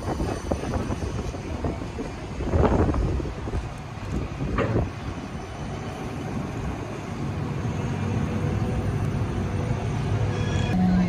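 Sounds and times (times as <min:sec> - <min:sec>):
tram clatter: 0:00.0 - 0:11.0
tram wheels rumbling on rails: 0:00.0 - 0:11.0.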